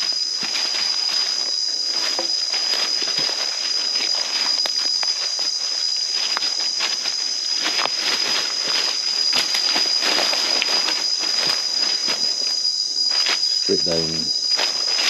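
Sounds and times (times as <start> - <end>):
footsteps on dry leaves: 0.0 - 15.0
insects droning: 0.0 - 15.0.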